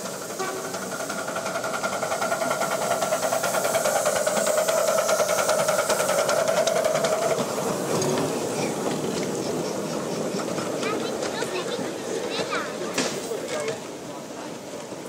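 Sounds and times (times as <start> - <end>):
locomotive clattering: 0.0 - 15.0.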